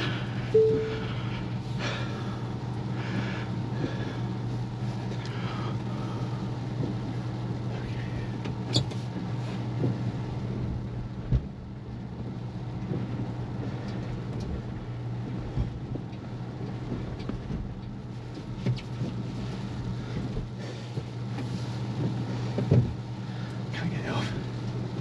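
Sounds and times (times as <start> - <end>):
car cabin low hum: 0.0 - 25.0.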